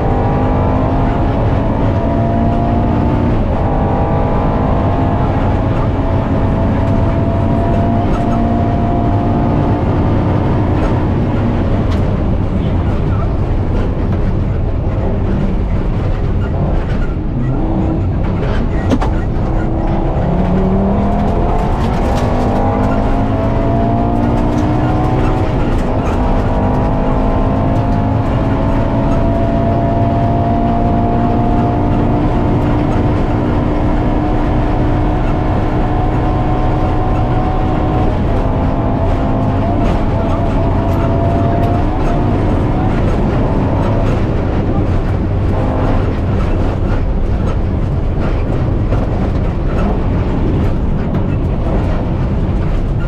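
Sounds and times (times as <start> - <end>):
rally car engine revving: 0.0 - 53.0
road and tyre rumble: 0.0 - 53.0.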